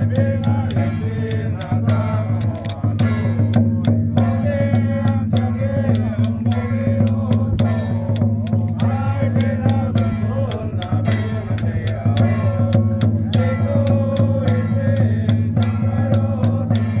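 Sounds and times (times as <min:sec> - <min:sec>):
barrel drum beating: 0:00.0 - 0:17.0
sharp percussion strikes: 0:00.0 - 0:17.0.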